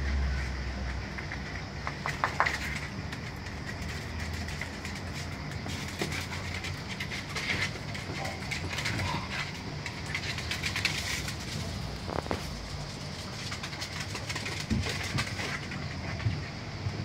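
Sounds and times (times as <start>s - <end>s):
dog claws clicking on tiles: 1.4s - 16.2s.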